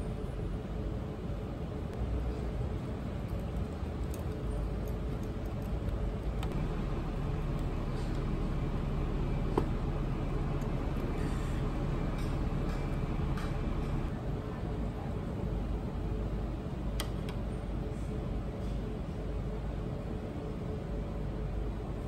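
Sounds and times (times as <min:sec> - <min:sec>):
low rumble of traffic: 0:00.0 - 0:22.0.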